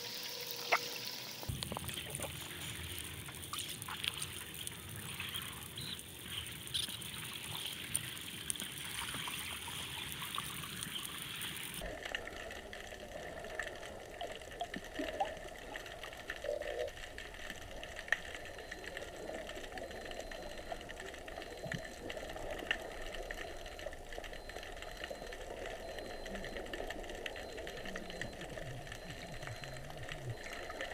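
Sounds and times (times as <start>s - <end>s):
muffled underwater water noise: 0.0s - 30.9s.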